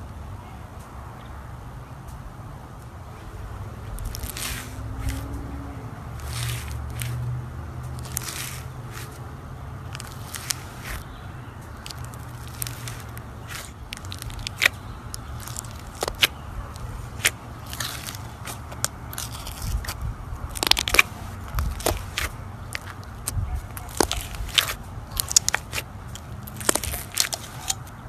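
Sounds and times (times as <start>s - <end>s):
slime crackling and popping: 4.0s - 5.4s, 6.2s - 9.2s, 9.8s - 28.0s.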